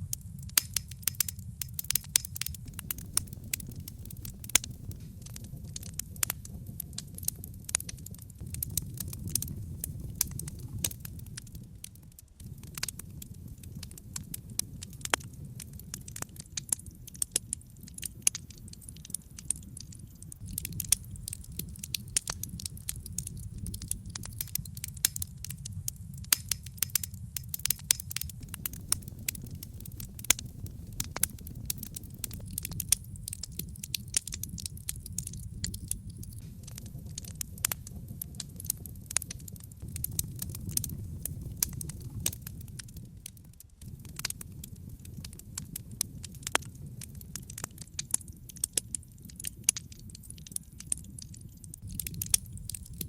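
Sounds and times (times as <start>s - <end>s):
burning logs crackling and popping: 0.0s - 53.0s
low rumble of fire: 0.0s - 53.0s.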